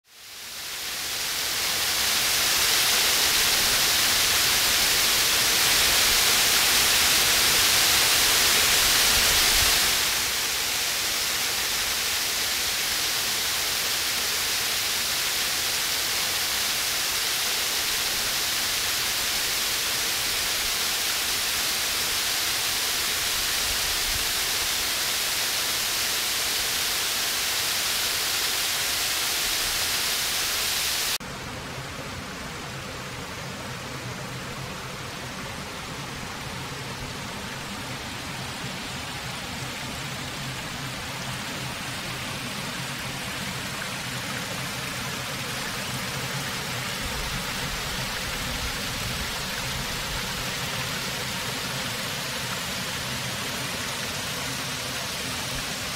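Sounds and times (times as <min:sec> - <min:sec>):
waterfall pouring over rocks: 0:00.0 - 0:55.9.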